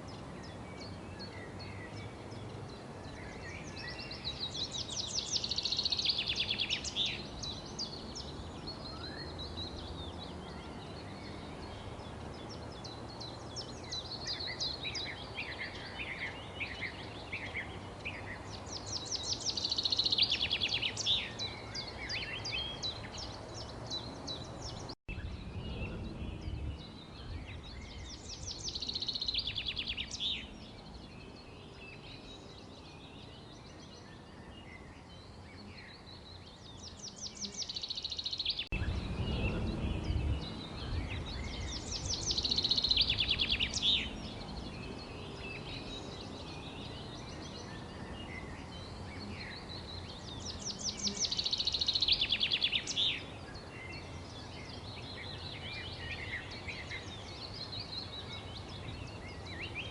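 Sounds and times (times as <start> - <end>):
bird trilling song: 0.0 - 59.9
low background noise: 0.0 - 59.9.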